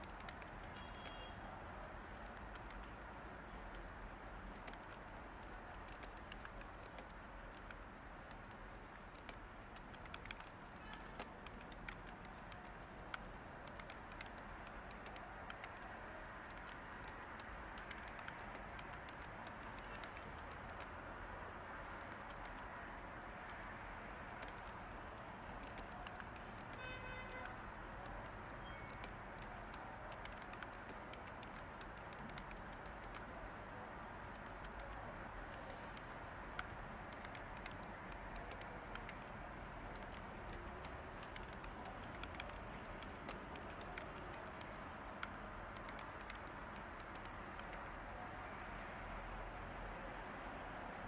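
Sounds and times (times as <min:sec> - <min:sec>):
keyboard typing: 0:00.0 - 0:48.8.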